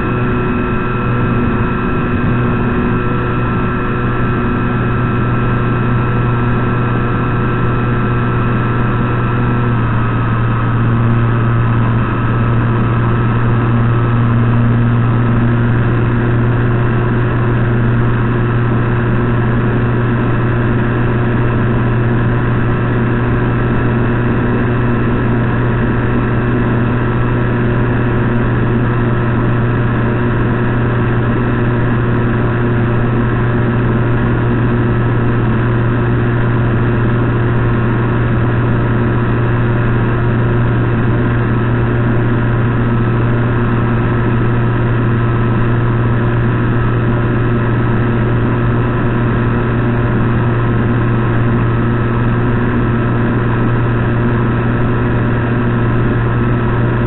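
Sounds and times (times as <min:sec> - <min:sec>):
electric motor and propeller drone: 0:00.0 - 0:57.0.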